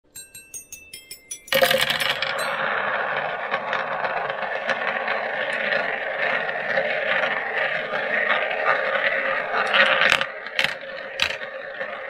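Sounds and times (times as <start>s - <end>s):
marbles rolling in plastic funnel: 1.5s - 12.0s.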